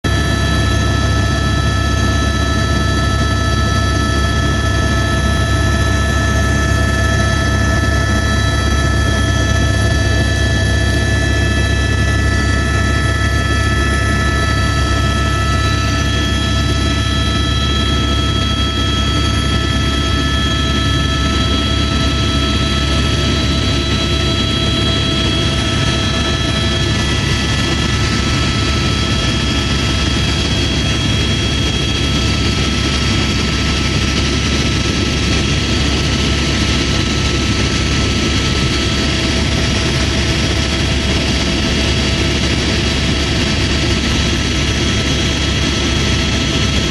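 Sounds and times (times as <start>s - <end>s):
helicopter rotor drone: 0.0s - 46.9s
turbine whine: 0.0s - 46.9s.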